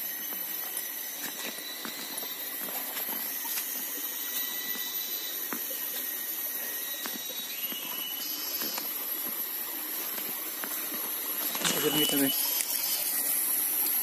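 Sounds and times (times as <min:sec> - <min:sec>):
high-pitched whine: 0:00.0 - 0:14.0
stream flowing: 0:00.0 - 0:14.0.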